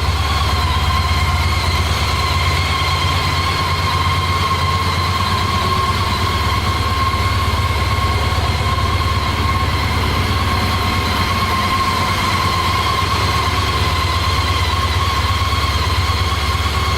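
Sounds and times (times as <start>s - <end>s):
high-pitched whine: 0.0s - 16.9s
motorcycle engine idling: 0.0s - 16.9s.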